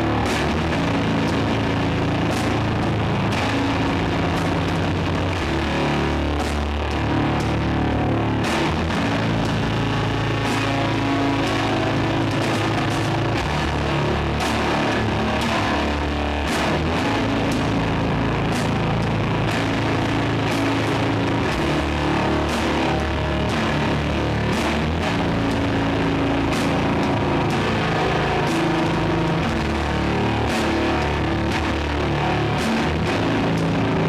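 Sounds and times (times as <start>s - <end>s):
distorted electric guitar chords: 0.0s - 34.0s
drums: 0.0s - 34.0s.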